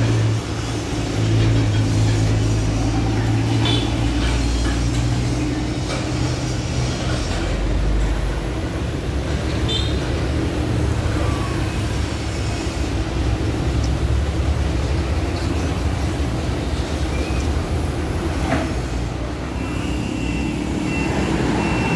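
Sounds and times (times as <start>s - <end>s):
large engine running steadily: 0.0s - 21.9s.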